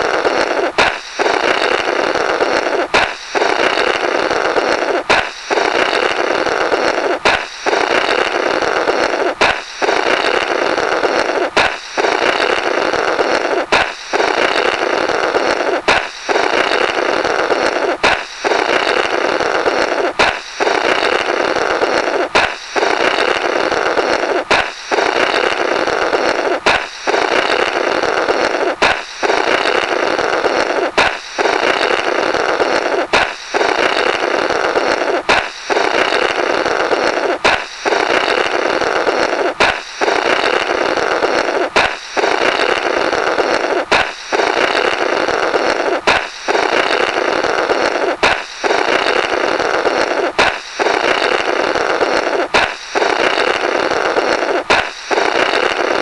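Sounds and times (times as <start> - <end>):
balloon popping: 0.0 - 56.0
raspy comical air blowing: 0.0 - 56.0.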